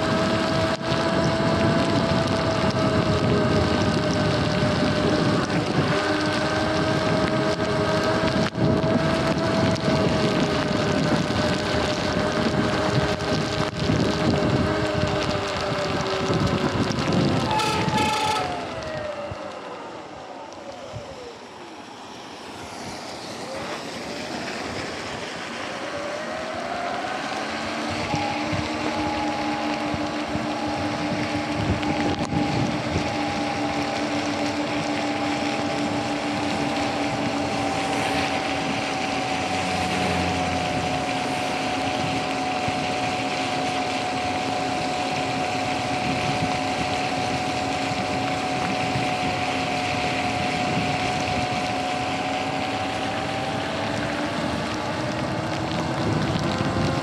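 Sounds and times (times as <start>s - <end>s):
wind on microphone: 0.0s - 21.4s, 22.6s - 57.0s
electric motor whine: 0.0s - 57.0s
tyres hissing on wet road: 0.0s - 57.0s.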